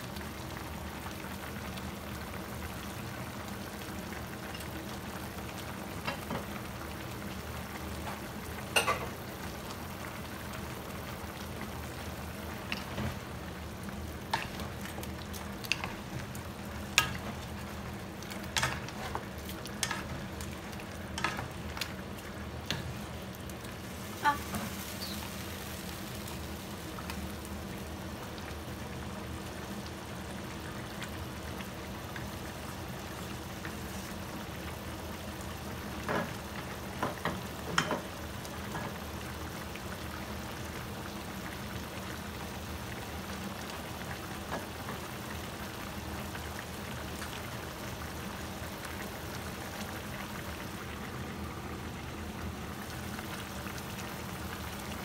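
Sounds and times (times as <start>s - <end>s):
pork sizzling in a pan: 0.0s - 55.0s.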